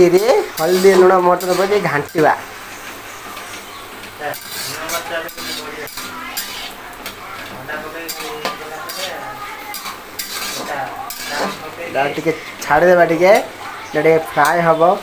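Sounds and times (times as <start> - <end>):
spatula scraping metal wok: 0.0 - 14.7
onions sizzling in oil: 0.0 - 15.0.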